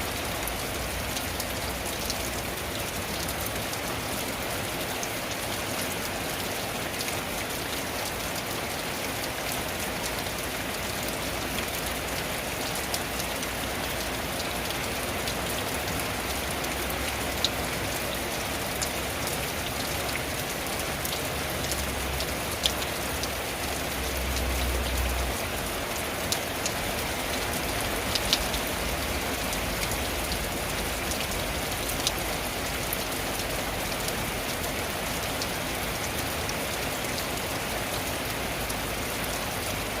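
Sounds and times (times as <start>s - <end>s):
rain on a tin roof: 0.0s - 40.0s.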